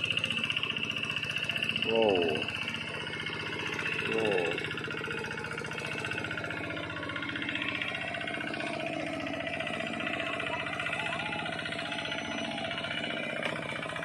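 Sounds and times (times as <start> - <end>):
tractor engine chugging: 0.0 - 14.0.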